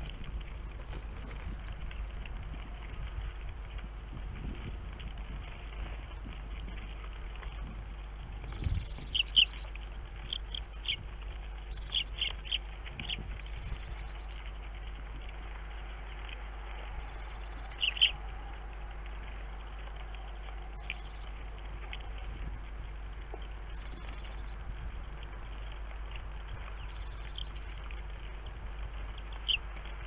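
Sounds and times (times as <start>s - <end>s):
songbirds chirping: 0.0s - 2.9s, 6.8s - 30.0s
low hum: 0.0s - 30.0s.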